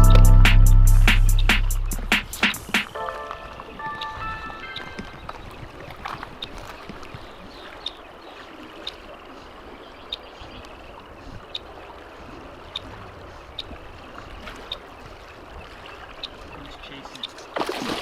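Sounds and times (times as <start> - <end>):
water running in a creek: 2.5 - 18.0.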